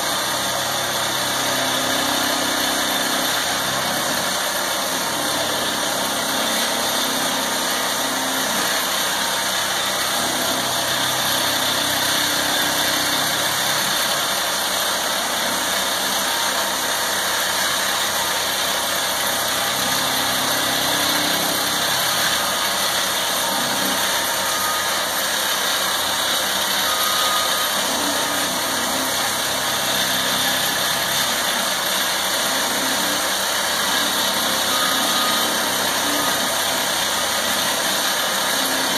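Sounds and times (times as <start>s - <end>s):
heavy machinery engines: 0.0s - 38.9s.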